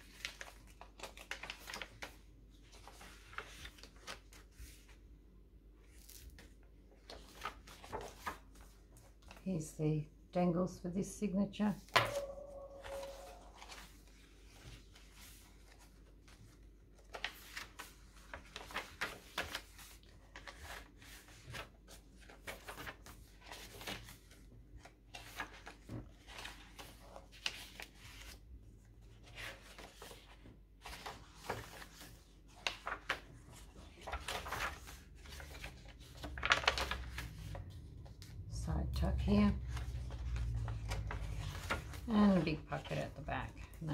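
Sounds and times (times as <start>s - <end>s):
paper pages rustling: 0.0s - 5.1s, 5.8s - 9.4s, 11.8s - 38.5s, 39.5s - 43.8s.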